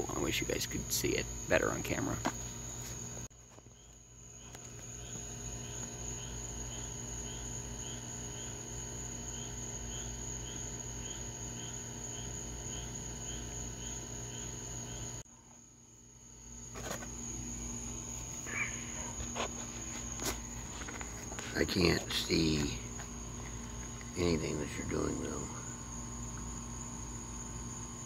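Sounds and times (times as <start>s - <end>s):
crickets chirping: 0.0s - 28.0s
high insect trill: 0.0s - 28.0s.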